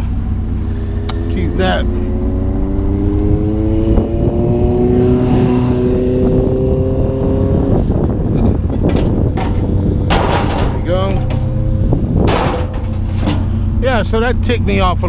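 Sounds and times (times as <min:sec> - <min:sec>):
vehicle engine accelerating: 0:00.0 - 0:15.0.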